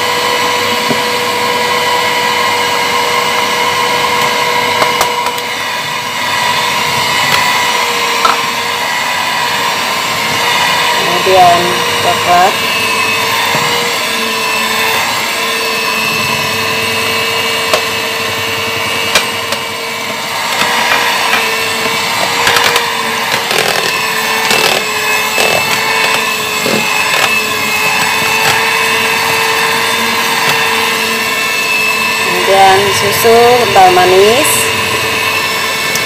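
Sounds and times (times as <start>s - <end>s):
electric hand mixer whirring: 0.0s - 36.0s.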